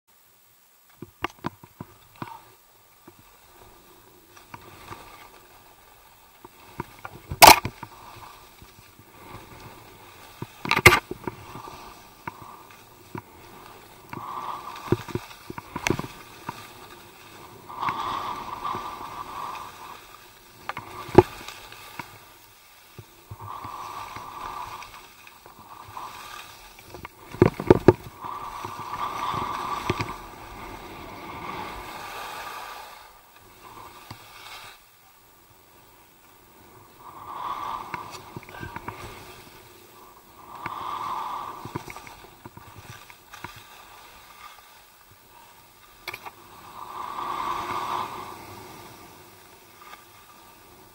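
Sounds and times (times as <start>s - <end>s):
skis swishing through snow: 2.2s - 50.9s.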